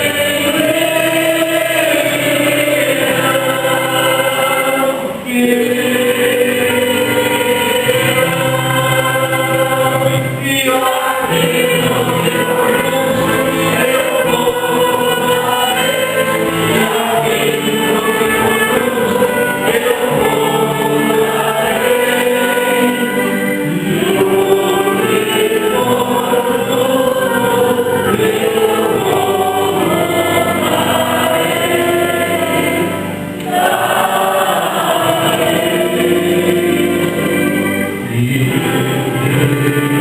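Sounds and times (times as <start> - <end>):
choir singing a hymn: 0.0 - 40.0.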